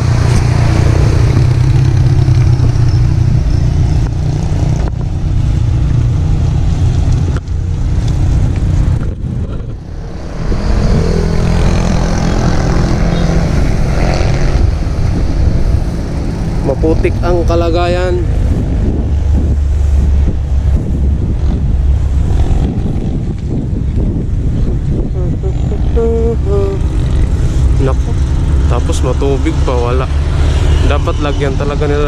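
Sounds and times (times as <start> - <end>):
passing motor vehicle engine: 0.0 - 32.0
road rumble: 0.0 - 32.0
wind rush: 0.0 - 32.0.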